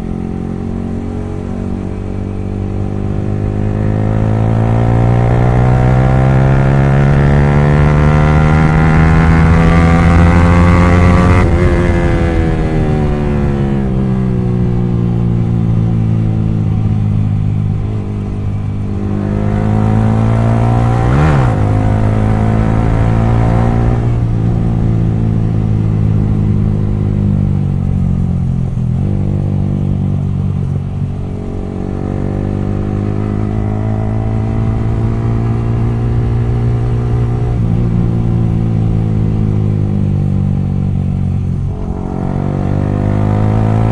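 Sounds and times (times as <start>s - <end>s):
loud motorcycle engine revving: 0.0s - 43.9s.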